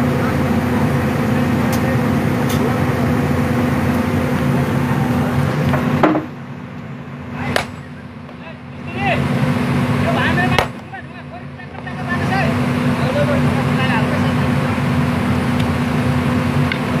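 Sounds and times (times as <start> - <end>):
digger engine running: 0.0 - 17.0.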